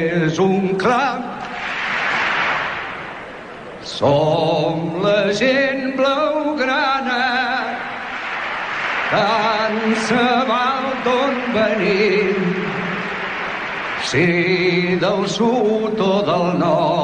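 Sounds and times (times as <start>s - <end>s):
choir singing with vibrato: 1.1s - 17.0s.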